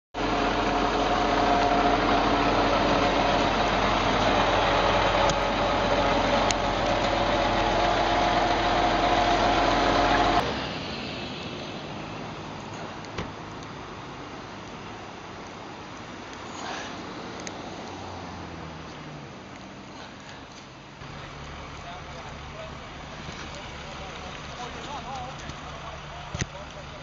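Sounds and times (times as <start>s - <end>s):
outdoor traffic noise: 0.2s - 27.0s
vehicle engine and road noise: 0.2s - 27.0s.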